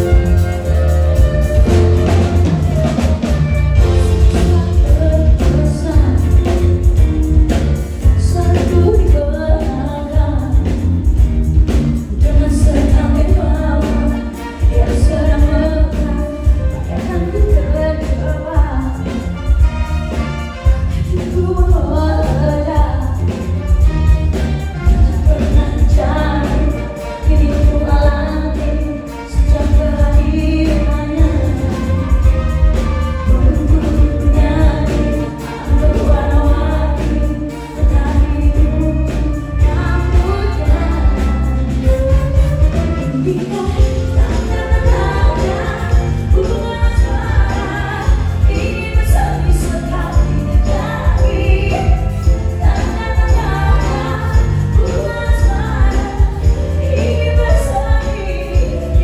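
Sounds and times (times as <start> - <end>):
pop band with heavy bass: 0.0 - 59.0
steady drum beat: 0.0 - 59.0.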